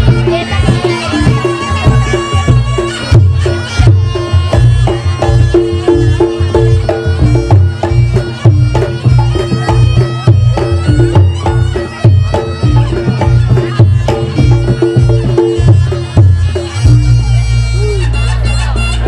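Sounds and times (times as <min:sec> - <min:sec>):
hand drums: 0:00.0 - 0:19.0
shawm playing reedy melody: 0:00.0 - 0:19.0.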